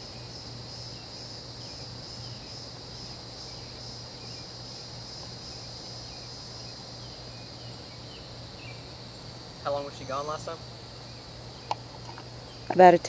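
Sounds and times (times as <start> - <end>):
crickets shrilling: 0.0 - 13.0.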